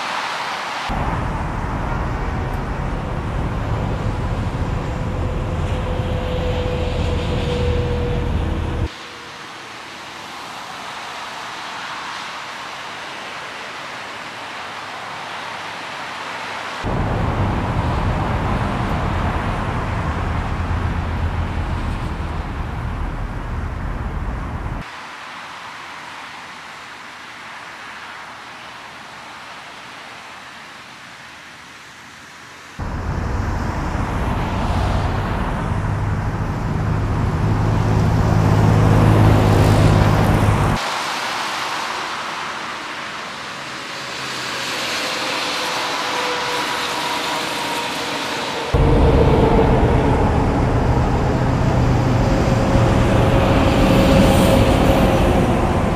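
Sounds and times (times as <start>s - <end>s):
highway traffic passing: 0.0s - 28.2s, 32.8s - 55.9s.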